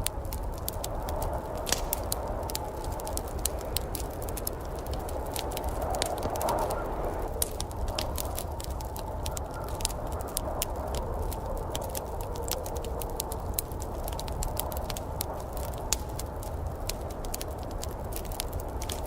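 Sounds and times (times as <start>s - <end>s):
low fire rush: 0.0s - 19.0s
wood fire pops and snaps: 0.0s - 19.0s.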